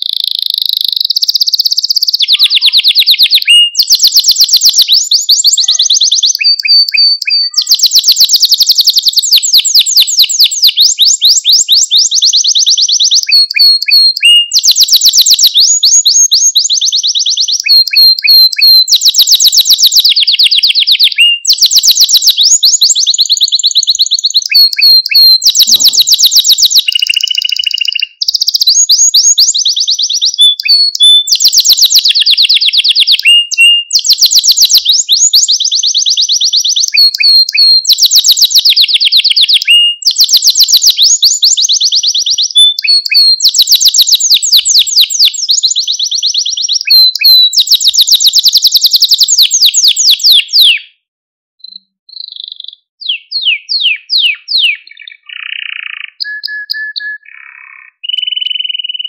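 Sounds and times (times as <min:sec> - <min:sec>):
canary singing trills: 0:00.0 - 0:51.0, 0:51.6 - 0:59.0.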